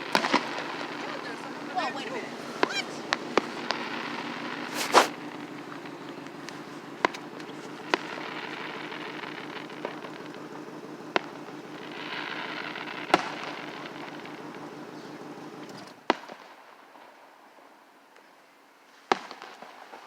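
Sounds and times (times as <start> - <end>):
fireworks bangs: 0.0 - 16.7
fireworks crackling: 0.0 - 17.3
low background noise: 0.0 - 20.0.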